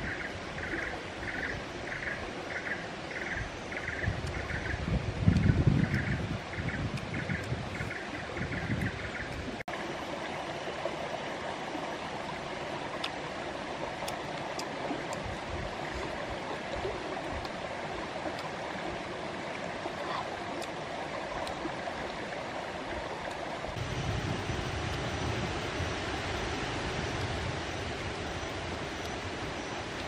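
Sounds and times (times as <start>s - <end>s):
stream rushing over stones: 0.0s - 30.0s.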